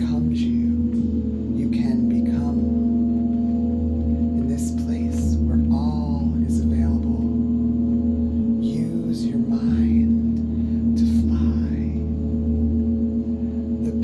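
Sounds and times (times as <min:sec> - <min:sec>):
gong drone: 0:00.0 - 0:14.0
higher shimmering sounds: 0:00.0 - 0:14.0.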